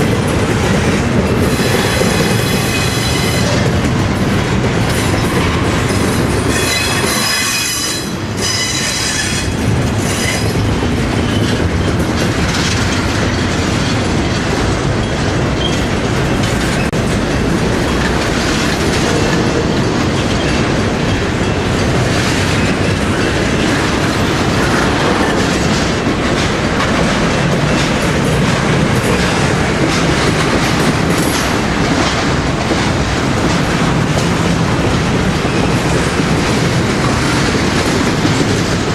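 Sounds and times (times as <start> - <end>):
train cars rumbling on track: 0.0 - 38.9.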